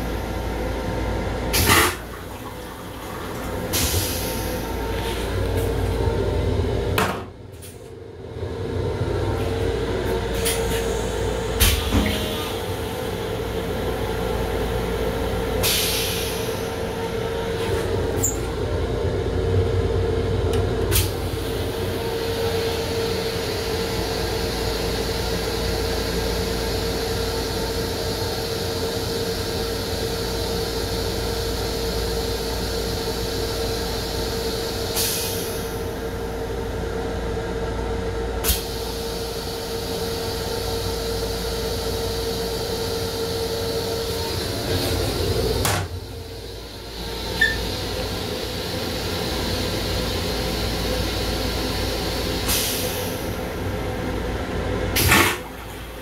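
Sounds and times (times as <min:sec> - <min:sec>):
train interior rumble and hum: 0:00.0 - 0:56.0.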